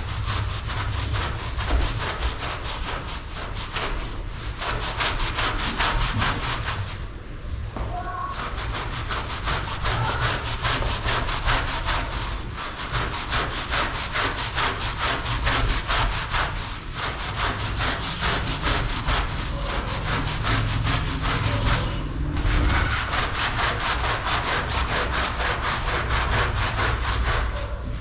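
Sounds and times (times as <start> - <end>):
rug scrubbing strokes: 0.0 - 7.2, 8.2 - 28.0.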